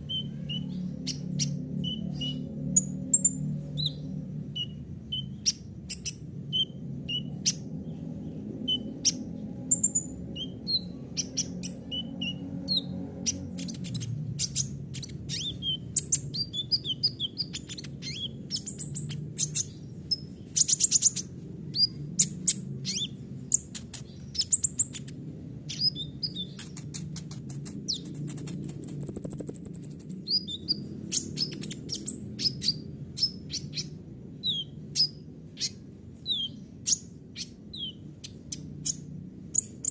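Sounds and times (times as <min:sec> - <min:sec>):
steady low hum: 0:00.0 - 0:39.9
sunbird singing high chirps: 0:00.0 - 0:39.9.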